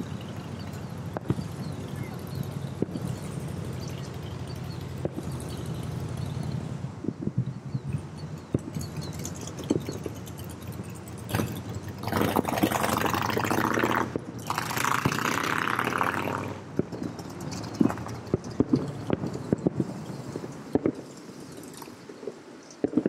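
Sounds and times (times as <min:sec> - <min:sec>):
distant fireworks pops and thuds: 0:00.0 - 0:23.0.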